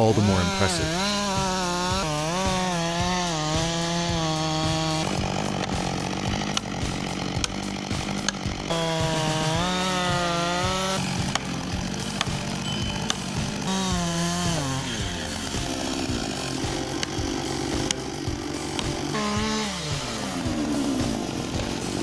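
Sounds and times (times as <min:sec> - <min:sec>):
chainsaw cutting wood: 0:00.0 - 0:22.0
chainsaw revving: 0:00.0 - 0:22.0.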